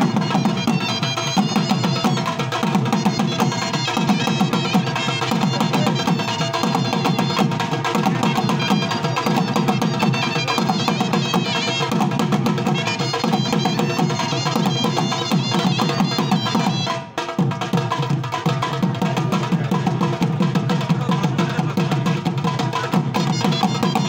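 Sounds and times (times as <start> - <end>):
dhol drums fast rhythm: 0.0 - 24.0.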